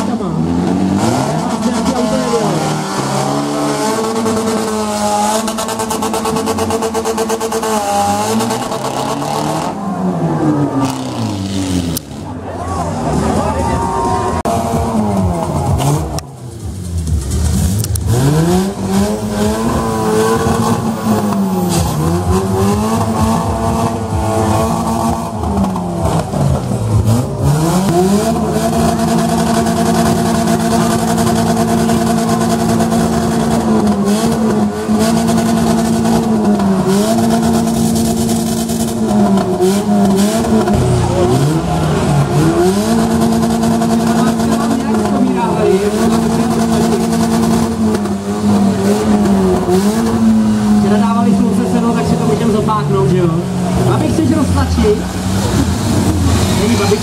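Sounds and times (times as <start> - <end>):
car engines revving hard: 0.0 - 57.0
cars colliding: 0.1 - 57.0.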